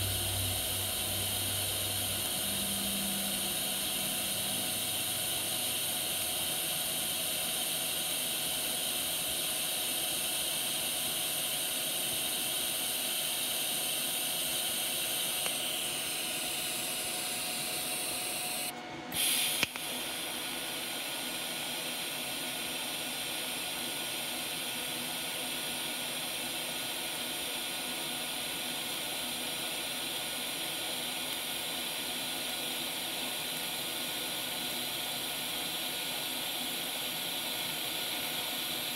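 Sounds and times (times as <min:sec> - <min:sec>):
welding arc hissing: 0:00.0 - 0:38.9.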